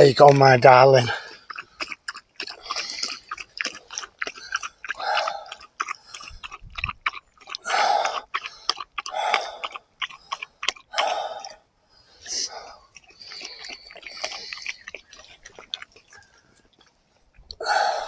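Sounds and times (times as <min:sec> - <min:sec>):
dog lapping water: 0:00.0 - 0:11.6, 0:12.3 - 0:16.6.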